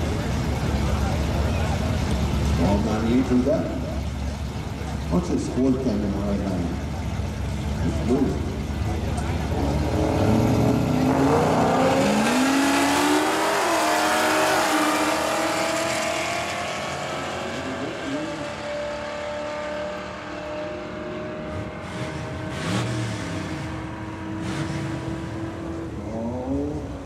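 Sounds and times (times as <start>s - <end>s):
race car engine at full throttle: 0.0s - 27.0s
second race car: 0.0s - 27.0s.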